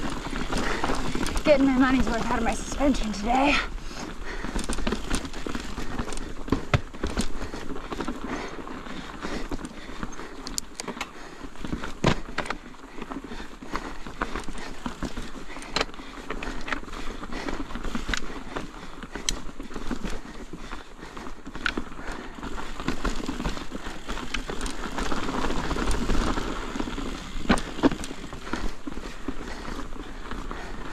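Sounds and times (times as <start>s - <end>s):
tyres crunching over stones: 0.0s - 20.8s, 21.4s - 29.7s
mountain bike rattling: 0.0s - 30.9s.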